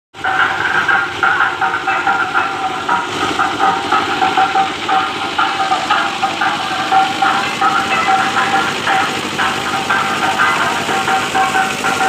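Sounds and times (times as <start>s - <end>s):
drum rhythm through loudspeakers: 0.1s - 12.0s.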